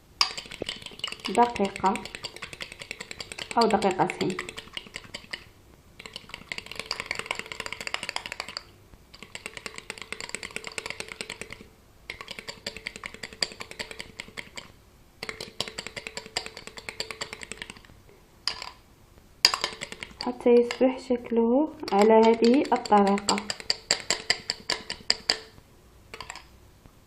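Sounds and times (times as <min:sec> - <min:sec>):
egg white beaten against plate: 0:00.2 - 0:18.8, 0:19.4 - 0:26.5.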